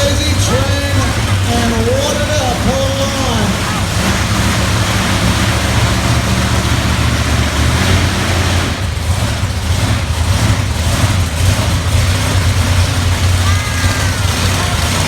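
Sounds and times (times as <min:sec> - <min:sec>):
monster truck engine running: 0:00.0 - 0:15.0.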